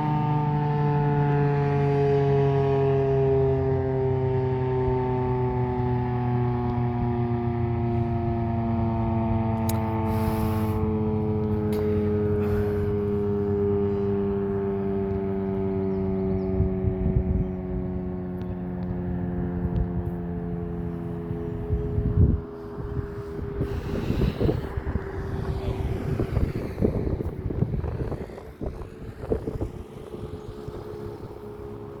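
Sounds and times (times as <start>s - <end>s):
electromechanical siren winding down: 0.0s - 32.0s.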